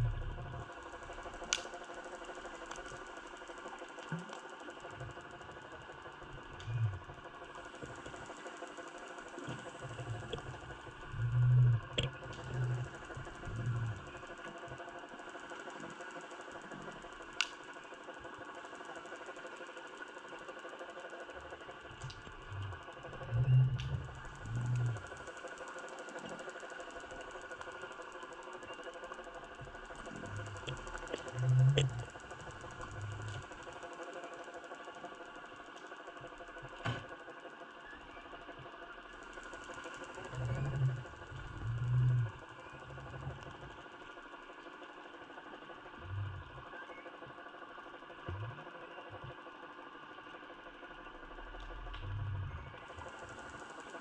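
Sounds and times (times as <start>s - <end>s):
underwater mechanical hum and ticking: 0.0s - 54.0s.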